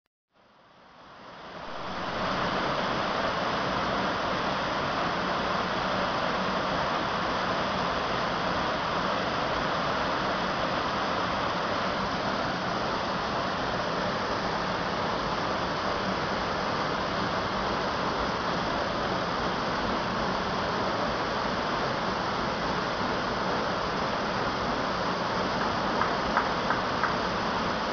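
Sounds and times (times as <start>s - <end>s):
waterfall pouring and splashing: 1.1s - 27.9s.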